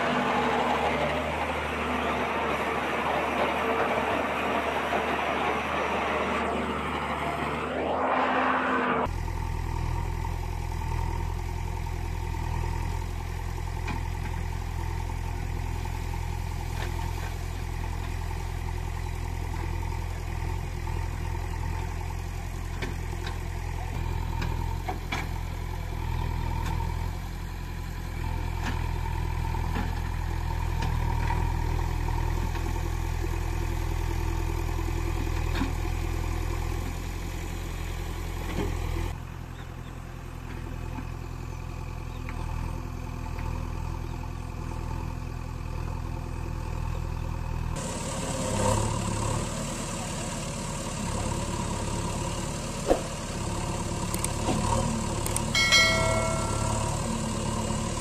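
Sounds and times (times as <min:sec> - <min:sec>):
engine idling: 0:09.0 - 0:58.0.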